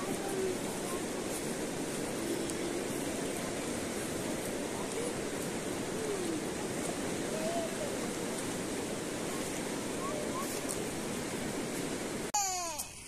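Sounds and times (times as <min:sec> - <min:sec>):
fast-flowing river rushing: 0:00.0 - 0:12.3.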